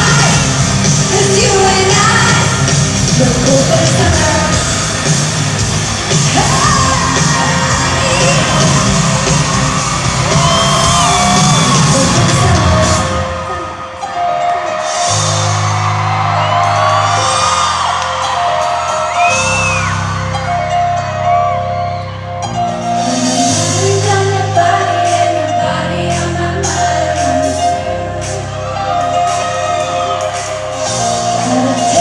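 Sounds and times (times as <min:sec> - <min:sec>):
crowd screaming and whooping: 0:00.0 - 0:23.9, 0:27.1 - 0:32.0
loud full-band music: 0:00.0 - 0:32.0.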